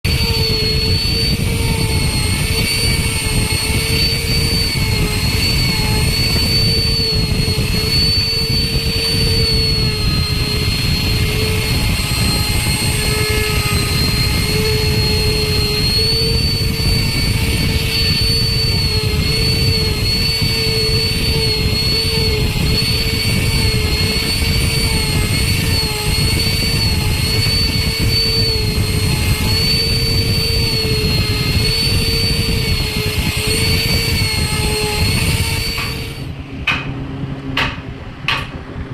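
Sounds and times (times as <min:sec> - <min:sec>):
wood router whining: 0:00.0 - 0:38.9.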